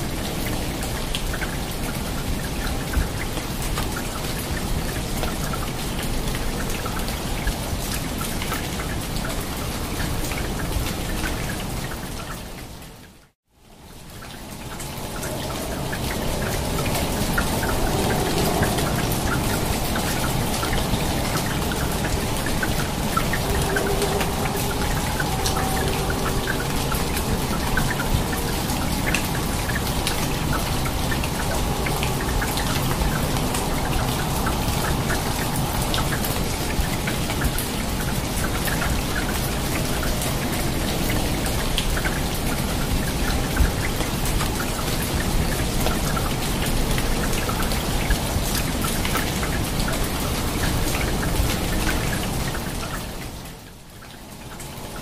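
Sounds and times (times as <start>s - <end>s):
rain on foliage: 0.0s - 55.0s.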